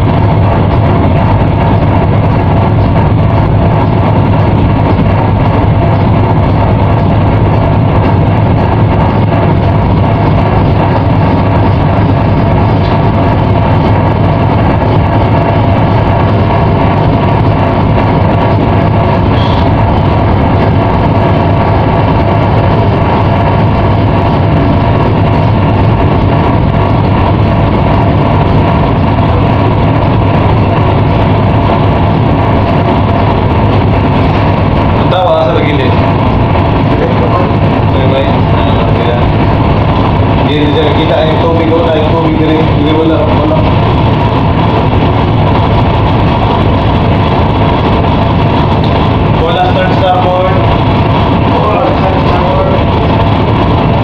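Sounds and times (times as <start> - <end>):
ship engine humming: 0.0 - 54.0.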